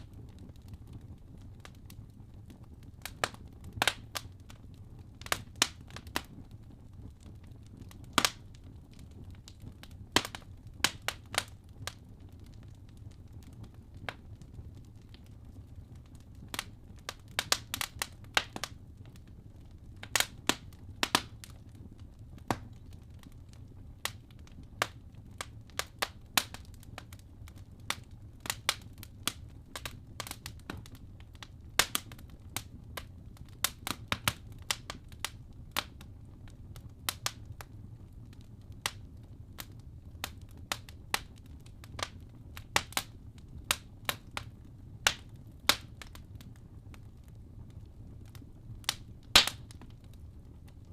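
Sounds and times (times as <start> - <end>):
low rumble of burning logs: 0.0 - 50.9
wood fire crackling and popping: 0.0 - 50.9.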